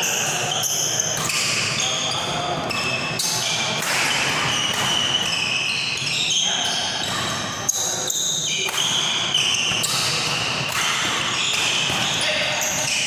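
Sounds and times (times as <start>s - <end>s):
sneakers squeaking on court: 0.0s - 13.0s.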